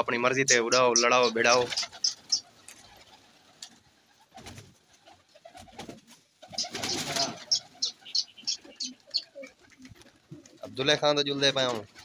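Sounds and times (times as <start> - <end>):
pigeons cooing softly: 0.4 - 10.8
wings flapping: 0.8 - 12.0.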